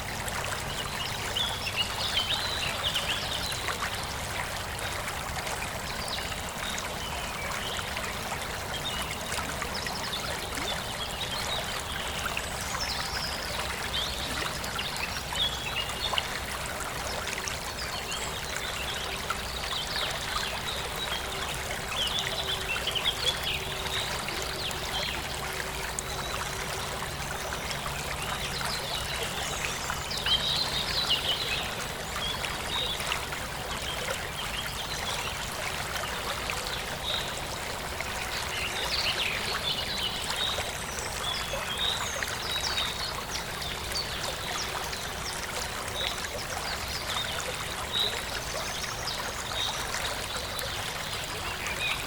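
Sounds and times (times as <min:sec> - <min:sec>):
stream trickling over stones: 0:00.0 - 0:52.0.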